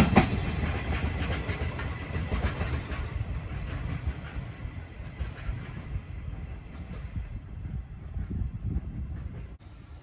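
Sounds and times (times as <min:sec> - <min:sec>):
wind buffeting microphone: 0:00.0 - 0:09.6
rumble of train: 0:00.0 - 0:10.0.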